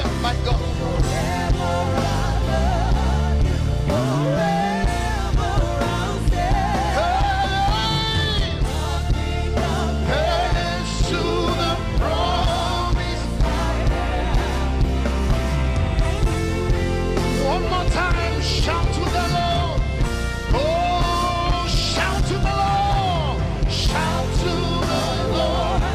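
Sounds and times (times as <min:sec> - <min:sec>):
gospel band music: 0:00.0 - 0:25.9
steady drum beat: 0:00.0 - 0:25.9
wordless singing: 0:00.0 - 0:25.9.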